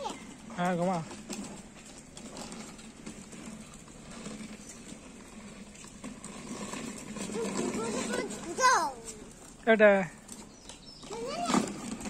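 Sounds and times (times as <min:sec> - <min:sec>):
plastic wheels rolling on concrete: 0:00.0 - 0:12.0.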